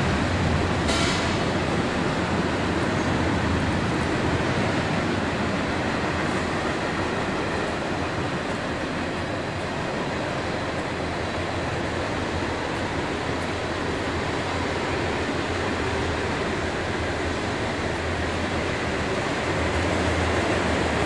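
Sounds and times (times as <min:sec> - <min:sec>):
vehicles idling in garage: 0:00.0 - 0:21.0.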